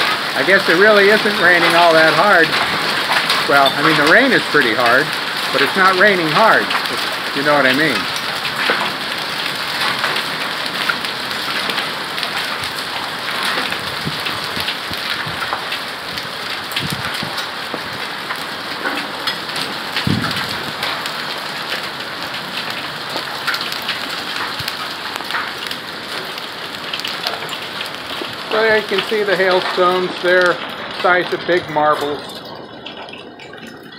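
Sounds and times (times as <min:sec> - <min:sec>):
hailstones ticking: 0:00.0 - 0:33.9
heavy rain pattering: 0:00.0 - 0:33.9.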